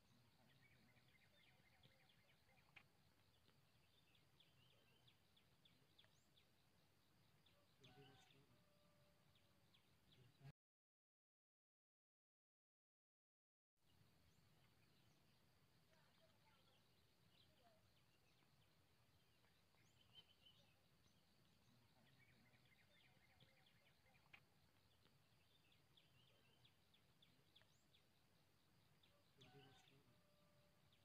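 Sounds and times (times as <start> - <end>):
small birds chirping: 0.0 - 10.5, 13.9 - 31.0.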